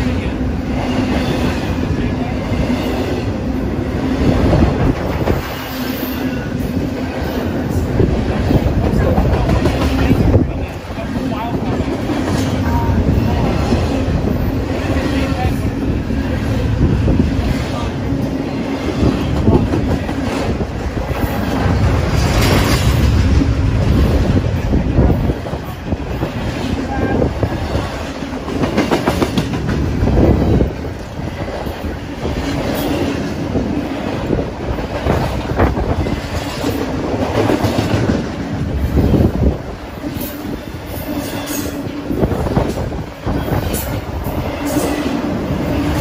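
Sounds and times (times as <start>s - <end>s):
freight train rumbling: 0.0s - 46.0s.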